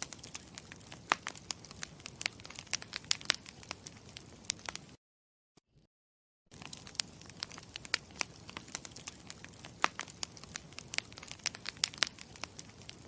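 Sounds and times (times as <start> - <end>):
campfire crackling: 0.0 - 5.0, 6.5 - 13.0.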